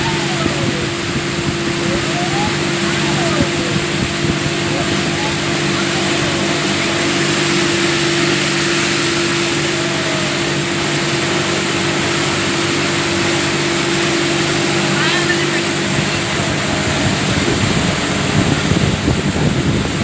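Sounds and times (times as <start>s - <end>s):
motorboat engine droning: 0.0s - 20.0s
rush of wind and water: 0.0s - 20.0s.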